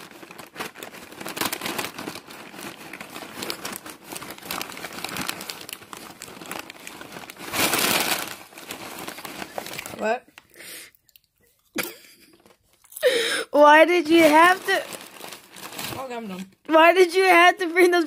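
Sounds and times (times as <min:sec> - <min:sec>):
plastic bag crinkling: 0:00.0 - 0:10.6, 0:12.2 - 0:18.0.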